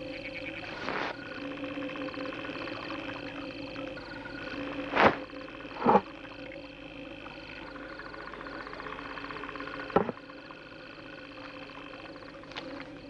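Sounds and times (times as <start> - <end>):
faint rapid ticking: 0.0 - 13.0.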